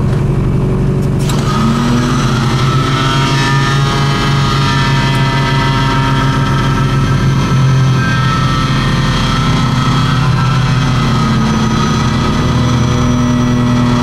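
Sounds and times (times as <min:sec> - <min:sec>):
aircraft piston engine droning: 0:00.0 - 0:14.0.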